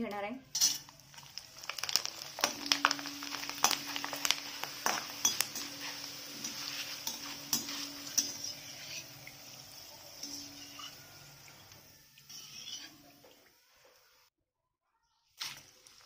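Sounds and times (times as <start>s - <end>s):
potato sizzling in hot oil: 0.5s - 14.2s, 15.4s - 16.0s.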